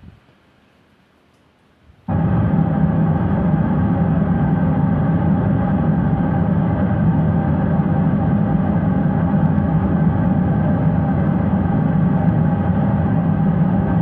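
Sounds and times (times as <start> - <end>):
loud layered drone: 2.1 - 14.0.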